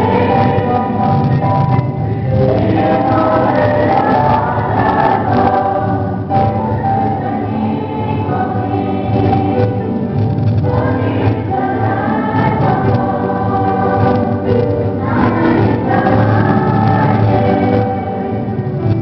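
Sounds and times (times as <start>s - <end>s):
choir singing long notes: 0.0s - 19.0s.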